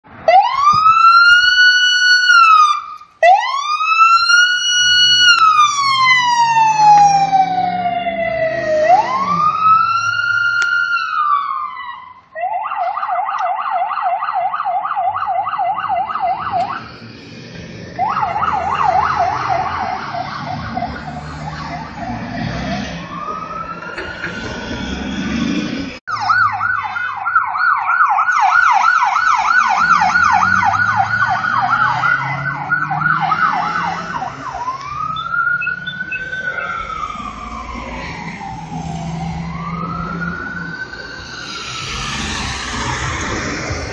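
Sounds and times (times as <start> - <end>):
engine and traffic rumble: 0.0 - 43.9
fire truck siren: 0.0 - 43.9.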